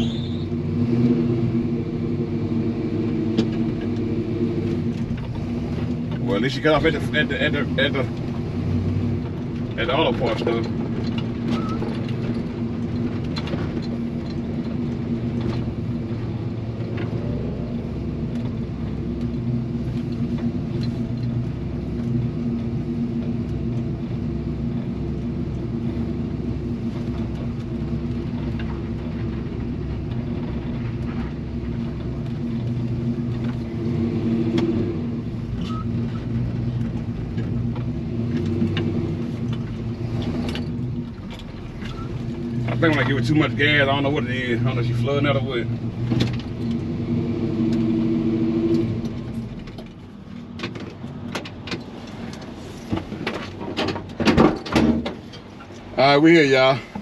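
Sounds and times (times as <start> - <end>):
pickup truck engine running: 0.0 - 57.0.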